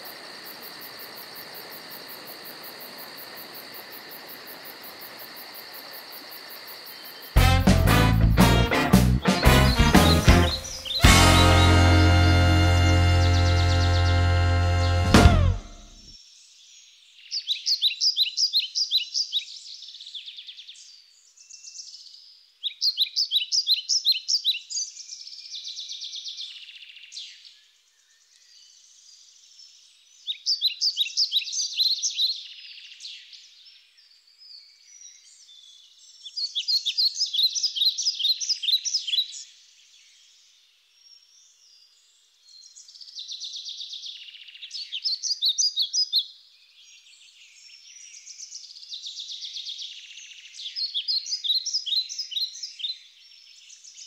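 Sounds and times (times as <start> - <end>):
songbird chirping: 6.8 - 54.0.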